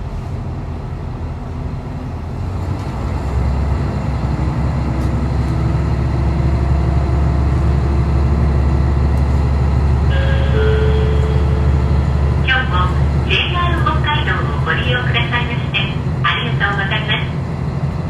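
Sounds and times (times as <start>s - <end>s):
railcar engine and wheels drone: 0.0s - 18.0s.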